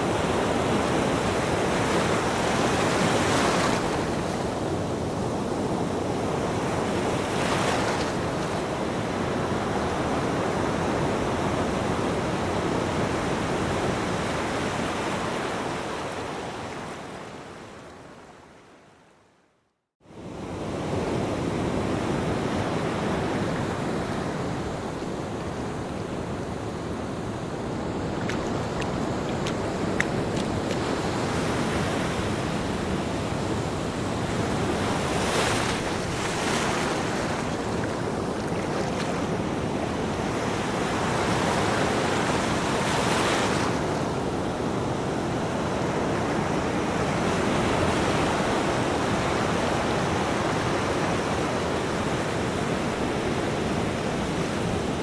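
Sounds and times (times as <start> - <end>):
ocean surf washing on beach: 0.0 - 17.9, 20.1 - 55.0
wind: 0.0 - 55.0.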